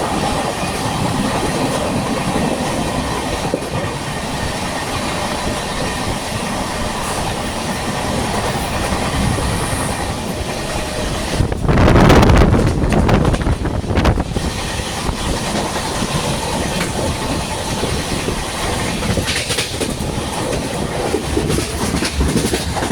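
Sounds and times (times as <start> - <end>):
train rushing: 0.0 - 22.9
train wheels clicking on rail joints: 0.0 - 22.9.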